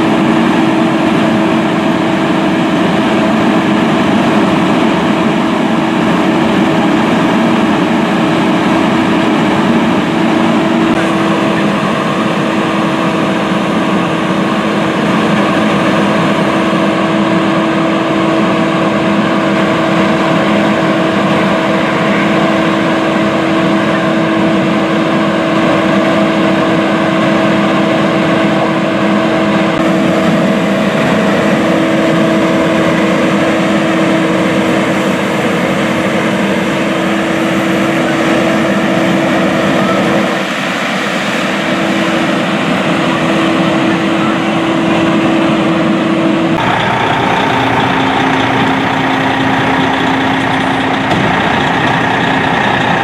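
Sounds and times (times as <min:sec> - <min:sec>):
fire engine pump engine droning: 0:00.0 - 0:53.0.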